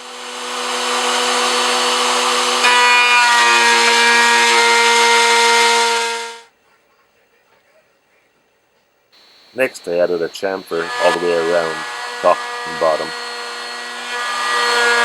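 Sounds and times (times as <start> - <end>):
router motor whine cutting wood: 0.0 - 6.4, 9.2 - 15.0.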